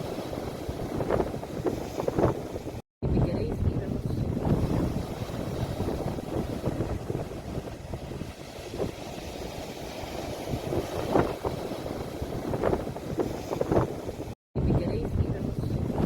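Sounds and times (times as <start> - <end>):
ocean waves washing on shore: 0.0 - 16.0
wind buffeting microphone: 0.0 - 16.0.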